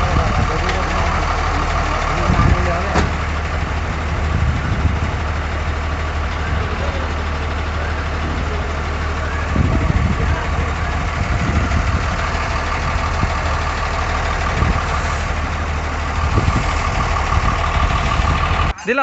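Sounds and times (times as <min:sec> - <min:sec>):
heavier uneven engine rumble: 0:00.0 - 0:19.0
truck engine idling: 0:00.0 - 0:19.0.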